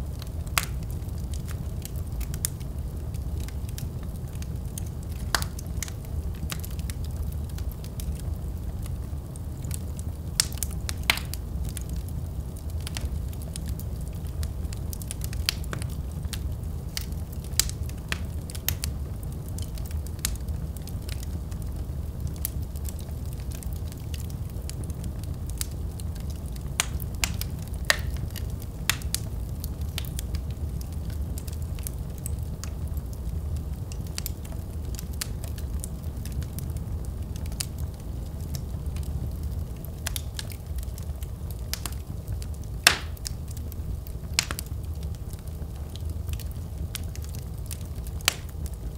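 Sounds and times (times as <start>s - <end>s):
fire crackling and popping: 0.0s - 48.9s
fire rumbling: 0.0s - 48.9s.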